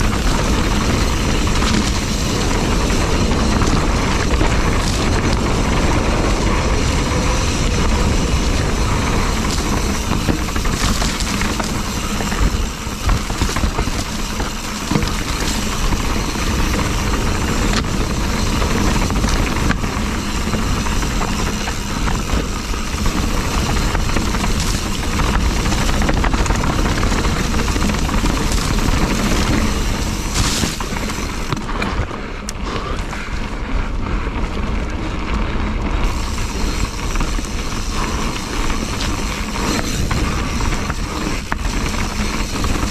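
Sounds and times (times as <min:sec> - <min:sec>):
bike knocks and rattles: 0:00.0 - 0:42.9
wind and tyre rumble: 0:00.0 - 0:42.9.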